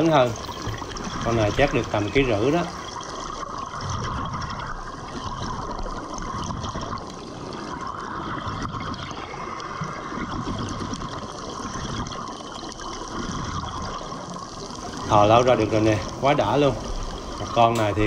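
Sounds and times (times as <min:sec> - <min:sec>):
underwater bubbling: 0:00.0 - 0:18.0.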